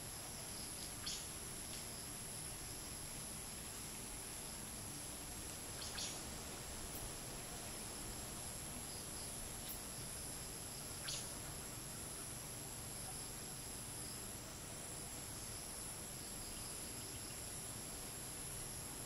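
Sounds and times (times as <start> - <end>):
crickets and insects chirping: 0.0 - 19.0
light wind hiss: 0.0 - 19.0.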